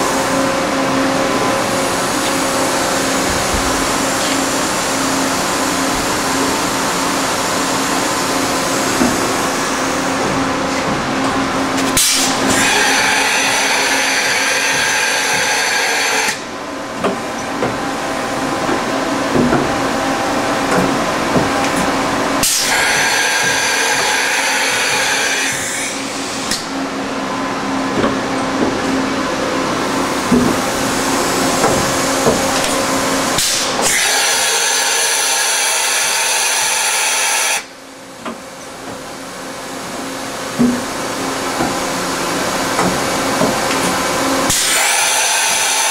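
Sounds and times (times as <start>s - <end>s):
machine hiss and whine: 0.0s - 45.9s
machine hum: 0.0s - 45.9s.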